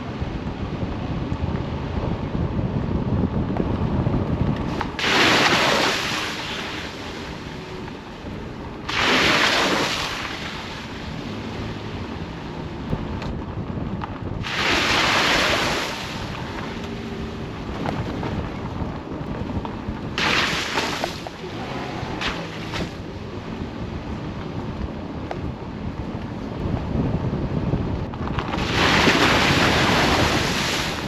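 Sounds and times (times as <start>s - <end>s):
car low rumble: 0.0s - 31.0s.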